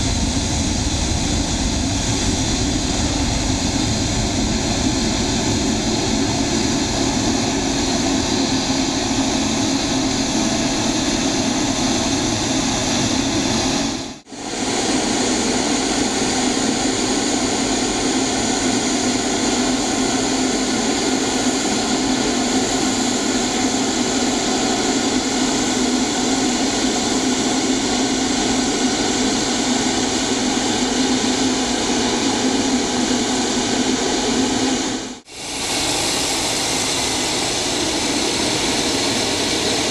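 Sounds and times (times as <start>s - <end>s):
jet engine whine: 0.0s - 39.9s.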